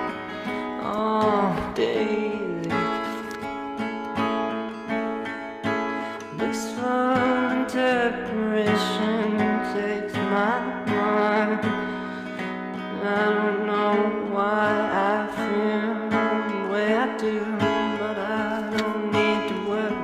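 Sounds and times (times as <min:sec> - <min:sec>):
song with guitar and singing: 0:00.0 - 0:20.0.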